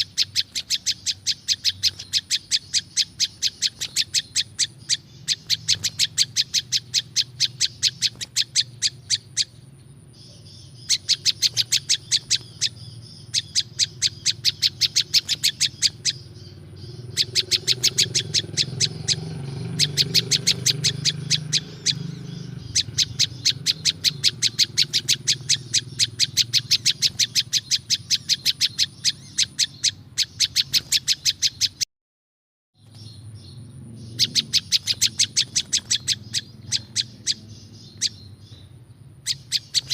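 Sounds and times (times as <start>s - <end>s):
songbird chirping rapidly: 0.0s - 31.9s, 32.8s - 39.9s.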